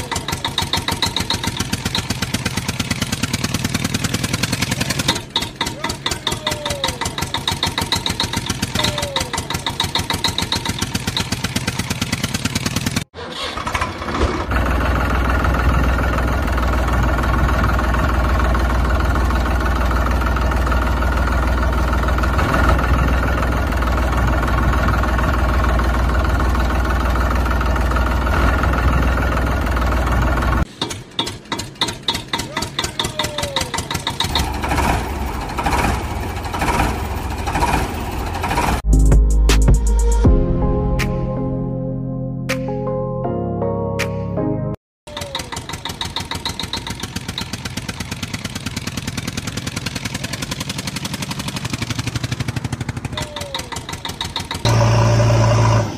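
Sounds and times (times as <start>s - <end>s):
diesel tractor engine chugging: 0.0s - 38.8s, 45.1s - 55.9s.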